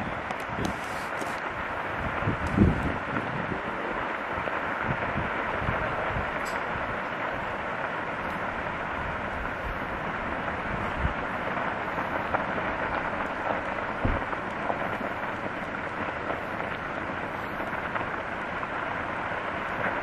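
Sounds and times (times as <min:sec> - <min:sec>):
dry grass burning crackle: 0:00.0 - 0:20.0.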